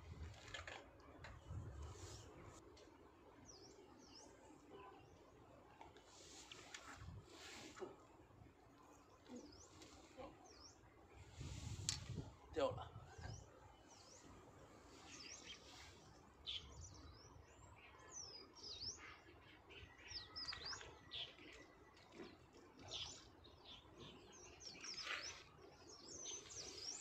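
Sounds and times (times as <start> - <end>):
small birds chirping: 0.1 - 27.0.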